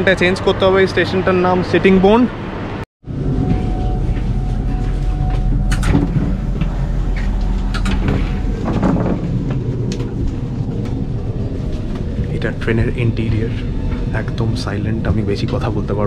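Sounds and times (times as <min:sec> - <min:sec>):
train rumbling from inside carriage: 0:03.0 - 0:16.0.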